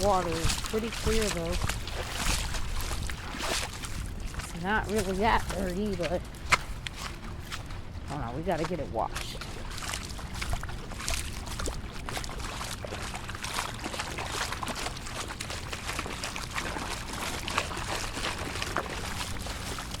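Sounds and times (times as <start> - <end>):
floodwater pouring and splashing: 0.0 - 20.0.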